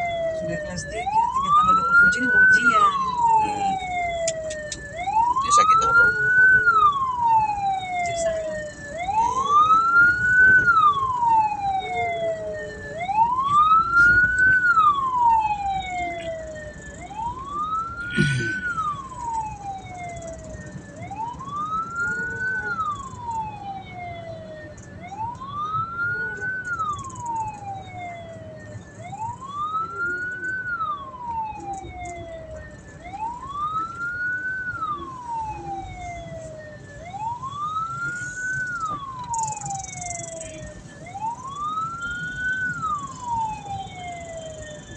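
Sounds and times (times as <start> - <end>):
wail siren: 0.0 - 44.9.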